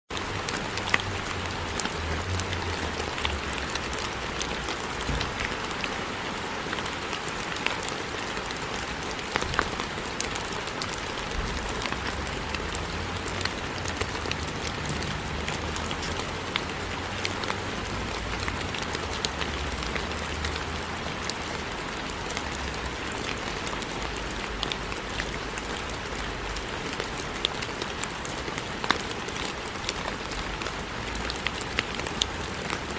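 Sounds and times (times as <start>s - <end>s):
rain falling: 0.1s - 32.9s.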